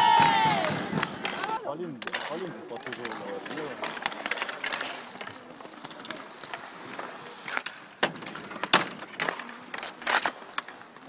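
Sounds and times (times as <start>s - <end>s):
hockey sticks and puck clacking: 0.0s - 11.0s.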